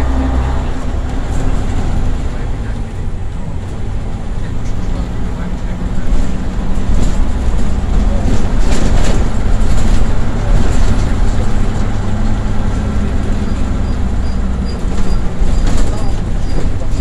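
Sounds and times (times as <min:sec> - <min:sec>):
bus diesel engine droning: 0:00.0 - 0:17.0
road noise: 0:00.0 - 0:17.0.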